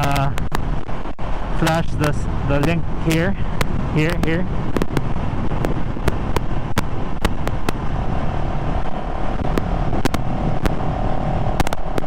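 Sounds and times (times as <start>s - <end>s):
steady whine: 0.0s - 12.0s
wind and road noise: 0.0s - 12.0s
motorcycle engine running: 1.6s - 12.0s.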